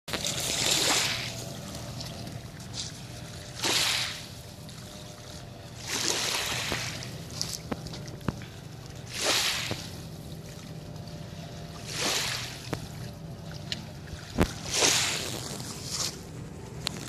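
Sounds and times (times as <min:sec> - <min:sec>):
toy boat motor humming: 0:00.1 - 0:17.0
waves washing onto shore: 0:00.1 - 0:17.0.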